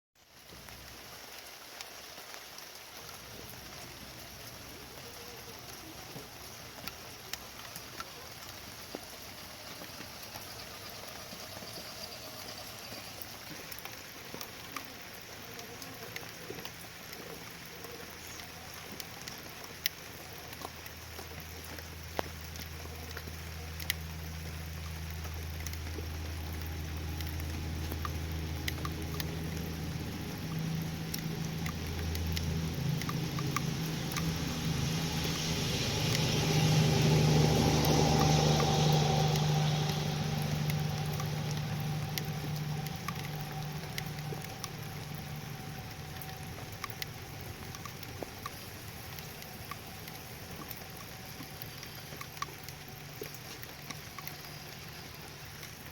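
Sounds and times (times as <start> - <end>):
steady rain: 0.2 - 55.9
low engine-like hum: 0.3 - 55.9
sharp drip ticks: 0.4 - 55.9.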